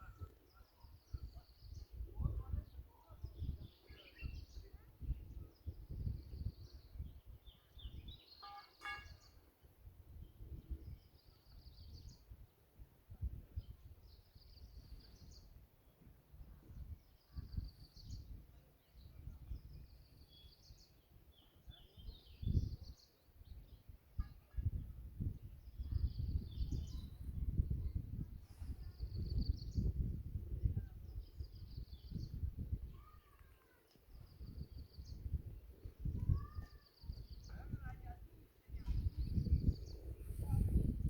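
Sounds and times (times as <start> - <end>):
wind buffeting microphone: 0.0 - 8.2, 9.8 - 33.5, 34.1 - 41.0
small birds chirping: 0.0 - 41.0.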